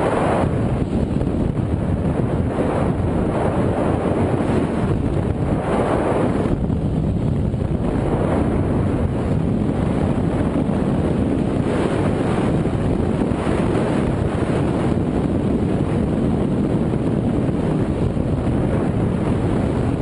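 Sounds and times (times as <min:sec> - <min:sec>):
wind roaring over microphone: 0:00.0 - 0:20.0.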